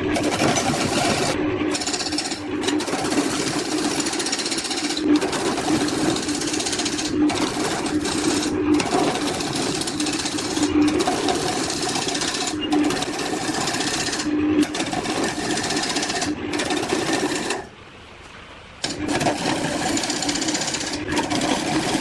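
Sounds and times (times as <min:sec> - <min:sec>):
power tool cutting wood: 0:00.0 - 0:17.7, 0:18.8 - 0:22.0.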